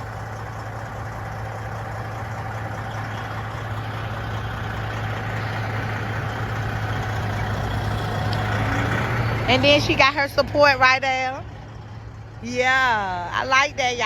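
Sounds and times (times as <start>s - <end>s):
diesel truck engine idling low: 0.0s - 14.0s.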